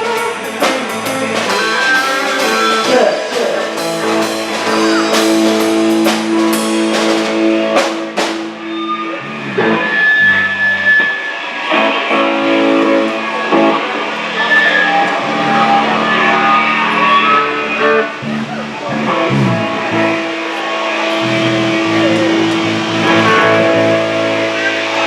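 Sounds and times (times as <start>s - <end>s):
live band music: 0.0s - 25.0s.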